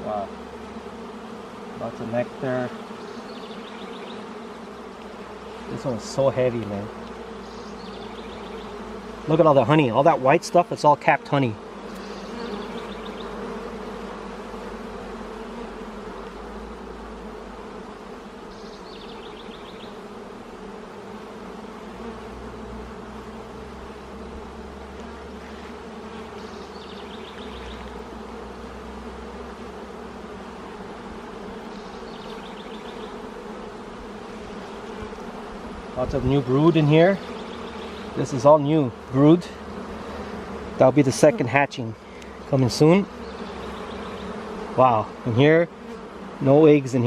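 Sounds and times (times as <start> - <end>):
honey bees buzzing: 0.0 - 47.0.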